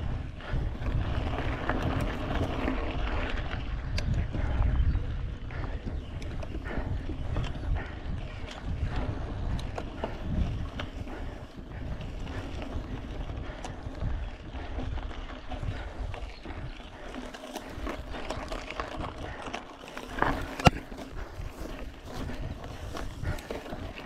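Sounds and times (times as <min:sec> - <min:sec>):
bike rattling and clicking: 0:00.0 - 0:24.0
bike tyres rumbling on dirt: 0:00.0 - 0:24.0.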